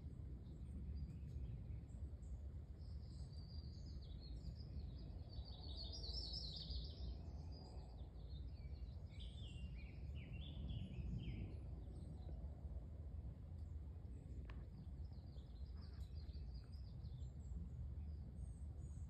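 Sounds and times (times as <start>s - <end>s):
low background rumble: 0.0s - 19.0s
songbirds chirping: 0.0s - 19.0s.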